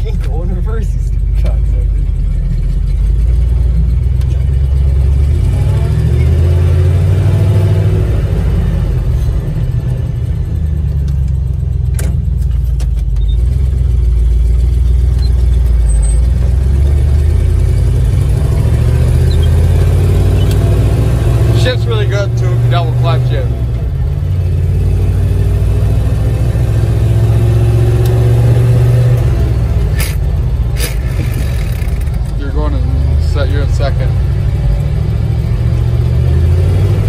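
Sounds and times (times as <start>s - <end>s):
truck engine running under load: 0.0s - 37.0s.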